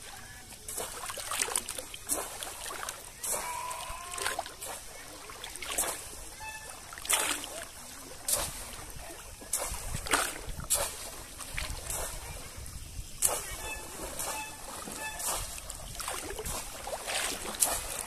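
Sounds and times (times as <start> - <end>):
water splashes: 0.0 - 18.0.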